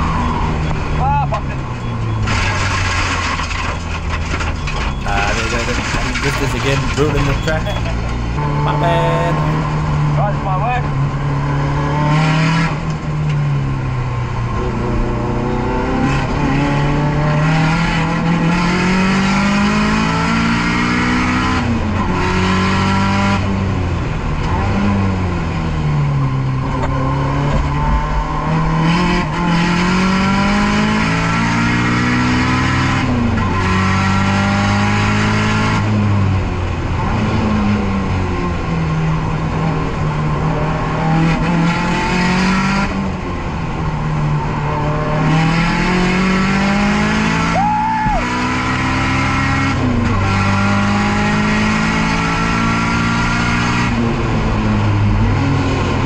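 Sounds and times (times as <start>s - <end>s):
turbocharged car engine revving: 0.0s - 56.0s.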